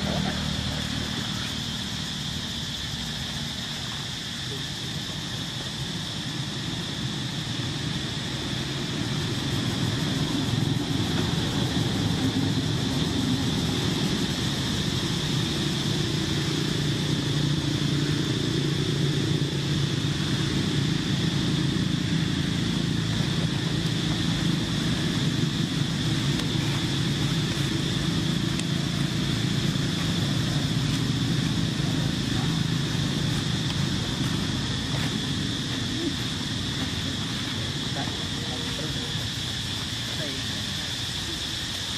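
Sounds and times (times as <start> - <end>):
low engine hum: 0.0 - 41.9.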